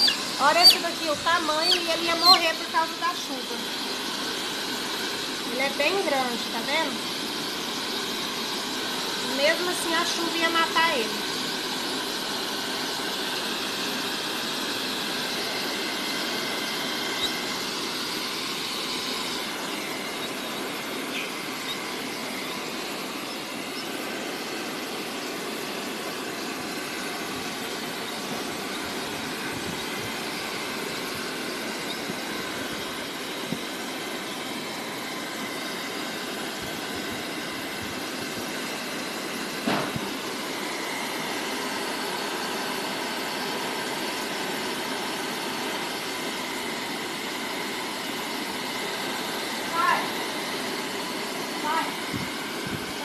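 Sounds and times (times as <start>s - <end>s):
hair dryer running: 0.0s - 53.0s.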